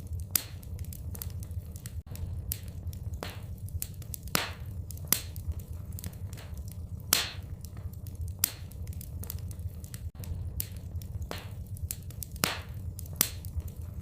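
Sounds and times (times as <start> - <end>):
loud fire pops: 0.0 - 14.0
steady low rumble: 0.0 - 14.0
wood fire crackling: 0.0 - 14.0.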